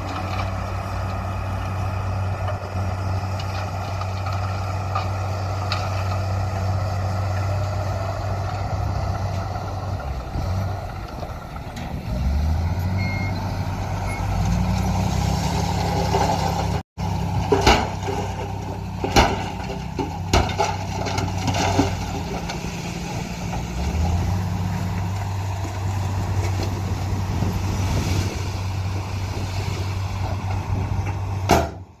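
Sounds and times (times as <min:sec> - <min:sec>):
diesel earthmoving machinery: 0:00.0 - 0:32.0.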